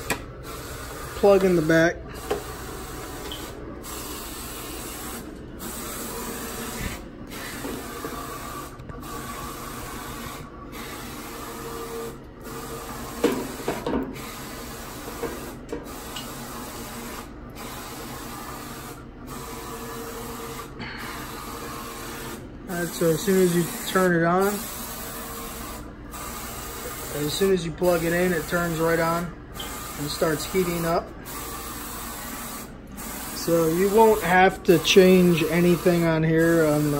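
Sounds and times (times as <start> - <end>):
inkjet printer whirring: 0.0 - 36.9.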